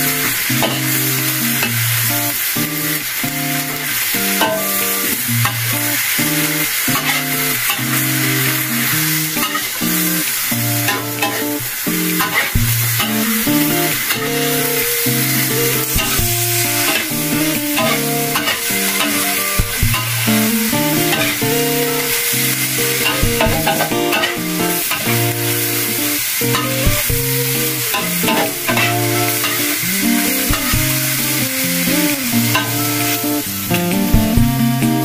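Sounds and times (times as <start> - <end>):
background music with held notes: 0.0 - 35.0
food sizzling in a wok: 0.0 - 35.0.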